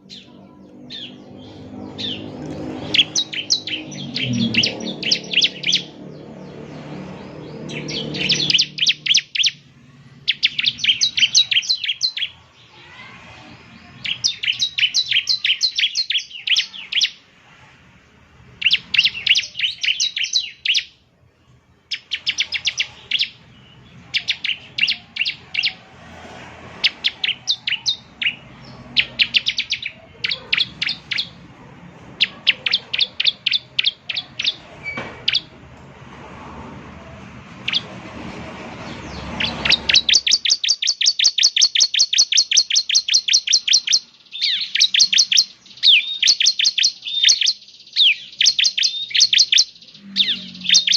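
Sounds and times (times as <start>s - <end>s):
bird singing sharp high chips: 0.0s - 9.6s, 10.3s - 13.1s, 14.0s - 17.2s, 18.6s - 21.0s, 21.9s - 25.8s, 26.8s - 31.4s, 32.2s - 35.5s, 38.9s - 50.9s.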